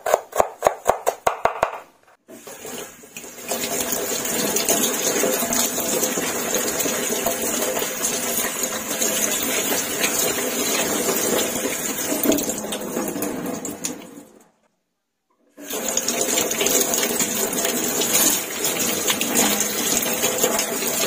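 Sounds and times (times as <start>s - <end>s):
tap water splashing into sink: 2.3s - 14.2s, 15.6s - 21.0s.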